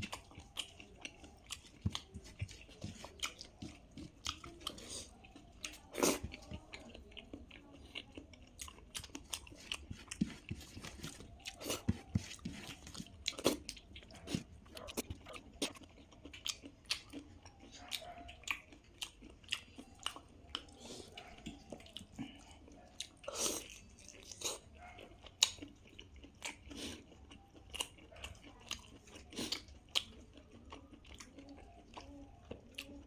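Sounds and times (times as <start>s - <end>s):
wet chewing and biting: 0.0s - 33.0s.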